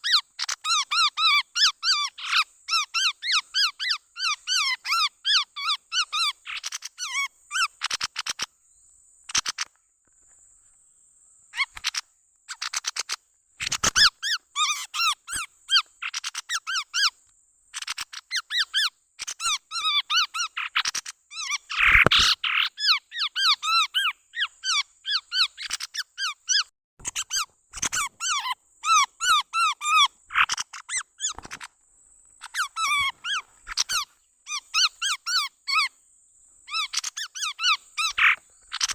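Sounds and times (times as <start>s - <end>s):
squeaky bird chirping: 0.0s - 8.5s, 9.3s - 9.7s, 11.5s - 31.7s, 32.4s - 36.0s, 36.6s - 38.9s.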